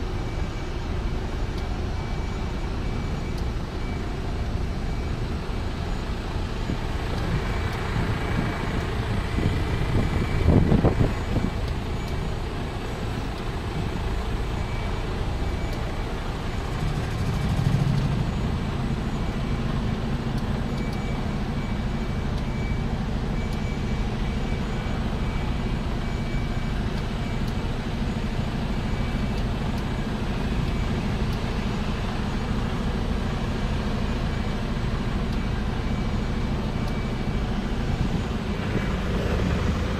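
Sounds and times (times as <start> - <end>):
reversing alarm beeping: 0.0 - 39.9
truck engine running: 0.0 - 39.9.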